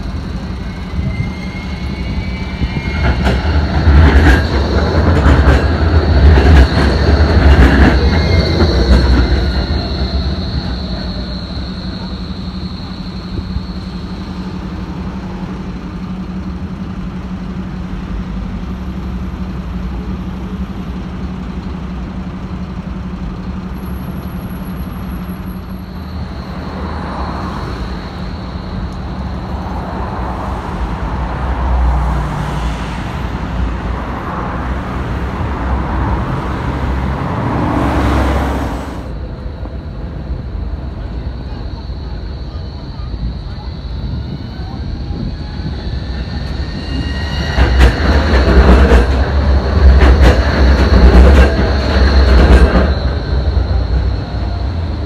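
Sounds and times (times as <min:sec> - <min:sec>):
tram electric hum: 0:00.0 - 0:55.0
vehicles passing on road: 0:00.0 - 0:55.0.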